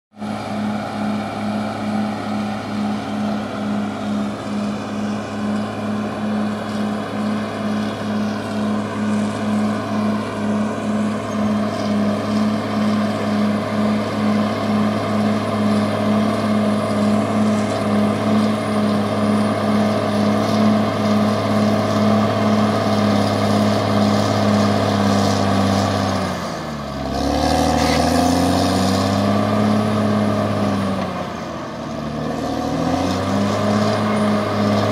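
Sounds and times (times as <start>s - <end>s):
bulldozer diesel engine running: 0.1s - 34.9s.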